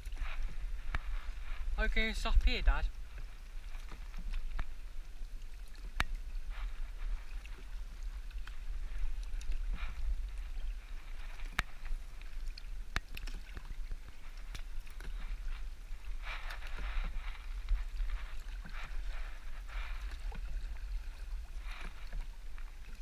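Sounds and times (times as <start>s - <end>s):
paddle swishes and water lapping: 0.0s - 23.0s.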